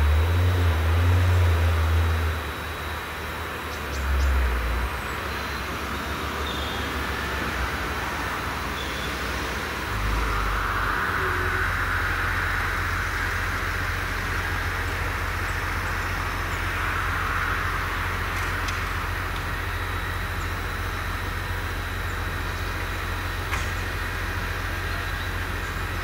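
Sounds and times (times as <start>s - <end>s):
tractor engines droning: 0.0s - 26.0s
broad hiss: 4.3s - 26.0s.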